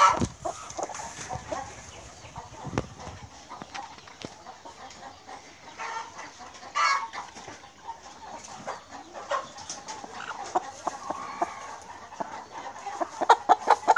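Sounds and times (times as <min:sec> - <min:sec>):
hens clucking: 0:00.0 - 0:13.9.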